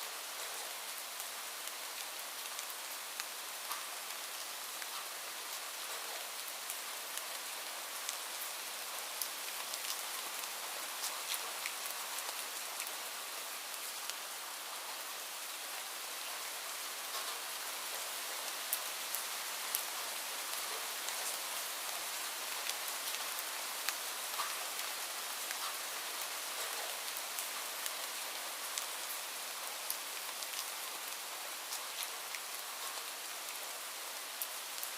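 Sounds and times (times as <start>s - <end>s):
raindrops pattering on a surface: 0.1s - 34.9s.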